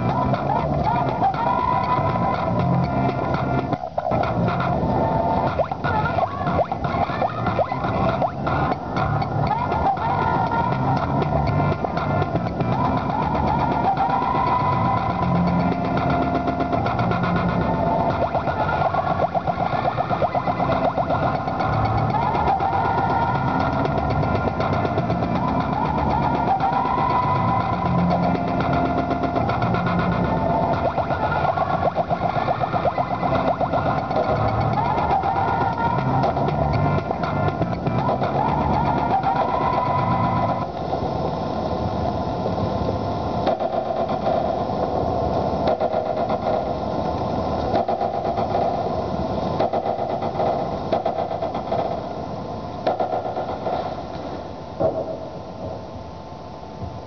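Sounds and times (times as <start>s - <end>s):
machine-like rattle and drone: 0.0s - 56.0s
fast pulsing noise: 0.0s - 56.2s
steady low rumble: 0.0s - 57.0s.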